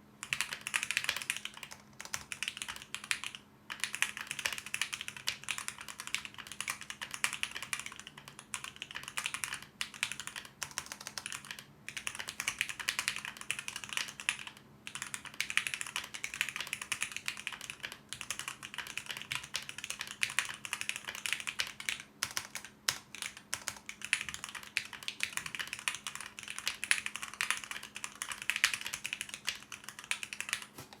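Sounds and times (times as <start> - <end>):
fast mechanical keyboard typing: 0.2 - 31.0.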